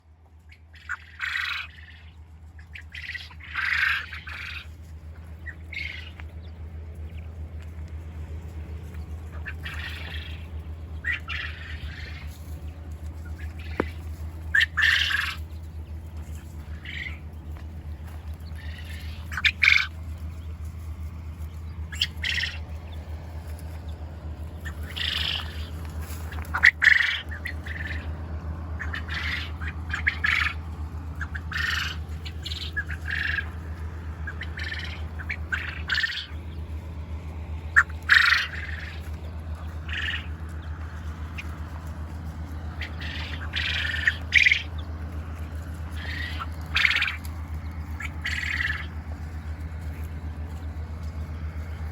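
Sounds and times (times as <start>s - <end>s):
low hum: 0.0s - 51.9s
quail calling: 0.3s - 51.9s.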